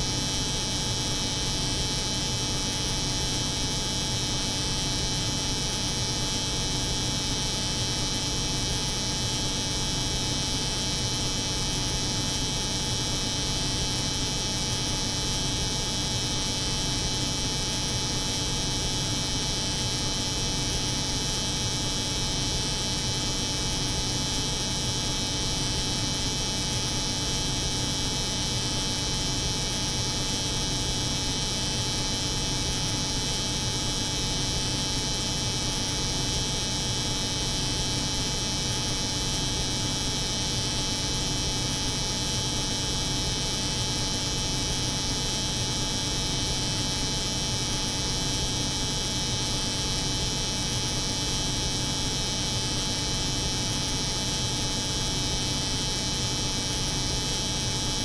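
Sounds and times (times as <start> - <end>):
refrigeration unit hum: 0.0 - 58.0.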